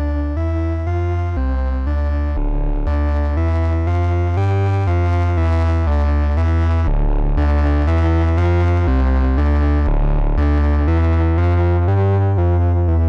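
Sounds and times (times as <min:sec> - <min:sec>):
distorted synthesizer notes: 0:00.0 - 0:13.0
heavy bass: 0:00.0 - 0:13.0.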